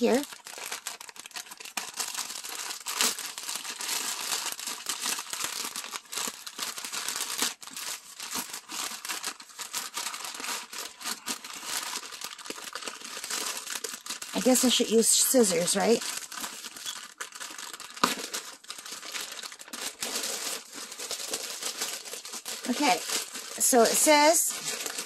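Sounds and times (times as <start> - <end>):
paper bag crumpled and torn: 0.0 - 25.0.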